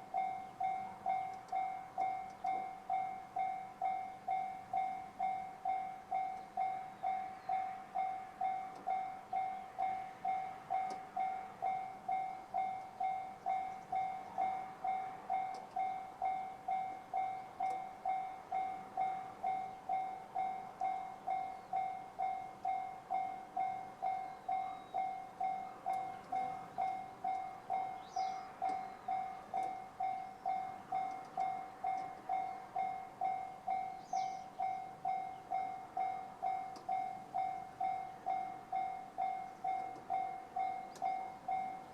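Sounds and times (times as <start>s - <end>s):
level-crossing bell ringing: 0.0s - 41.9s.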